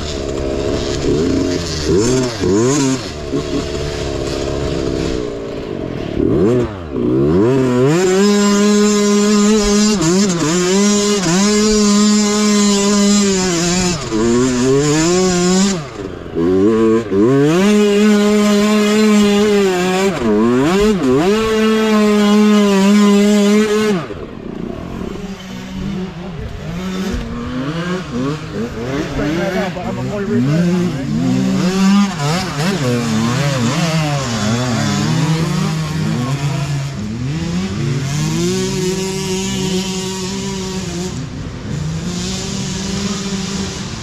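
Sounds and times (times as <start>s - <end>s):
mini bike engine revving: 0.0s - 44.0s.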